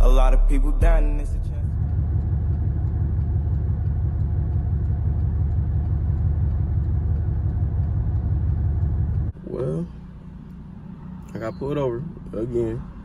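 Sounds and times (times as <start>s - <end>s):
car engine and exhaust droning: 0.0s - 13.0s.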